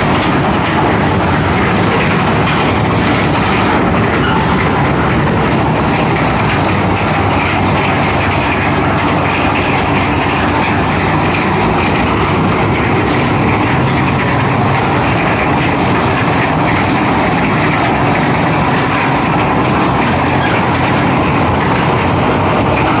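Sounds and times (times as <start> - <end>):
concrete mixer rattling: 0.0 - 23.0.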